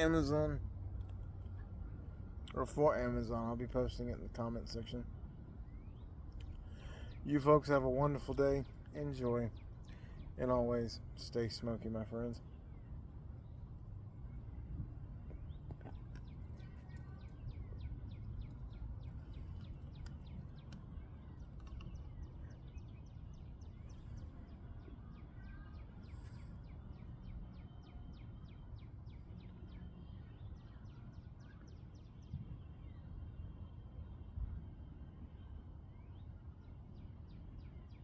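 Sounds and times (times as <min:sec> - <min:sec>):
steady low rumble: 0:00.0 - 0:31.5
small birds chirping: 0:00.0 - 0:38.0.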